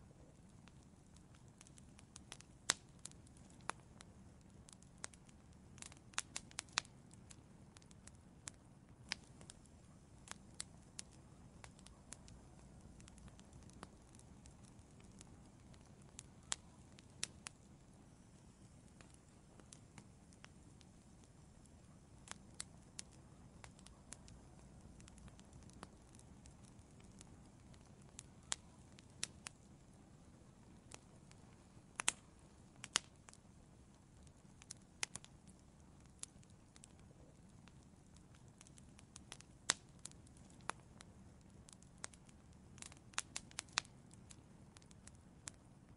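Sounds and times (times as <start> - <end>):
burning wood crackling and popping: 0.0 - 45.9
soft hiss of flames: 0.0 - 45.9.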